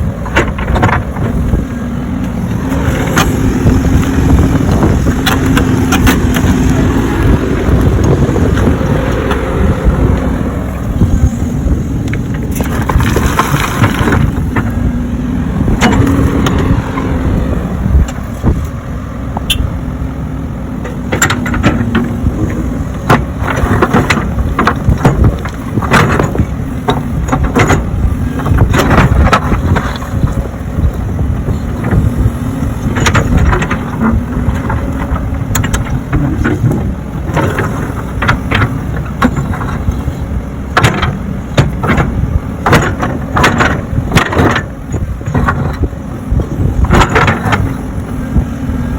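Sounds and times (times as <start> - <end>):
knocks and clunks: 0.0 - 19.8, 20.7 - 48.9
digging machine diesel engine: 0.0 - 48.9.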